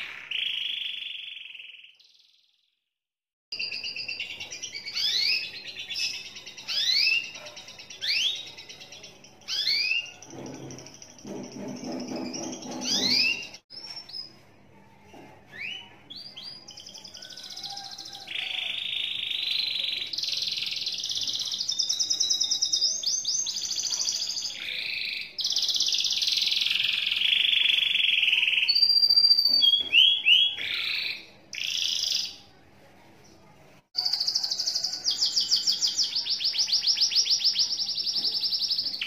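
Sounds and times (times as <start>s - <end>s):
canary singing trills: 3.5s - 14.4s, 15.6s - 32.5s, 34.0s - 39.0s.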